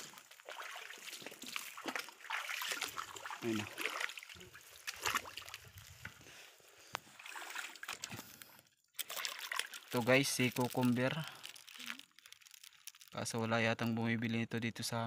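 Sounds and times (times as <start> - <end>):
shallow water splashing: 0.0 - 6.4, 7.0 - 13.2.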